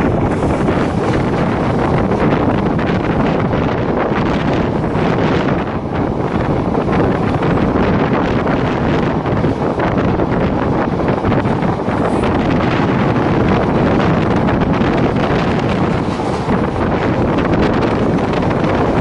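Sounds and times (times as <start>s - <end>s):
train running noise: 0.0s - 19.0s
wind buffeting microphone: 0.0s - 19.0s.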